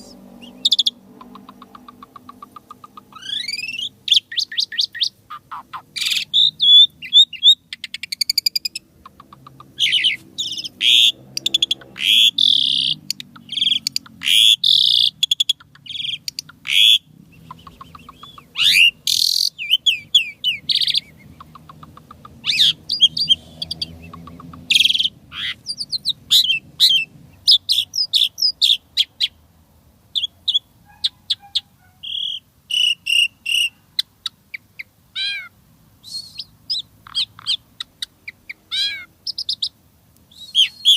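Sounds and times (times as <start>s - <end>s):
starling singing: 0.0s - 29.4s, 30.2s - 40.9s.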